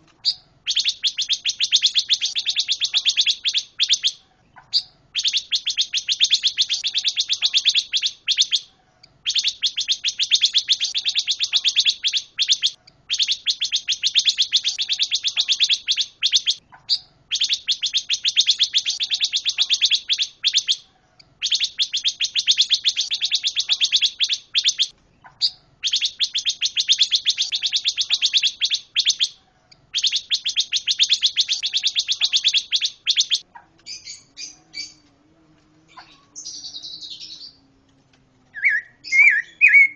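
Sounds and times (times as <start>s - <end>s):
songbird fast chattering song: 0.1s - 35.0s, 35.9s - 37.6s, 38.5s - 39.9s.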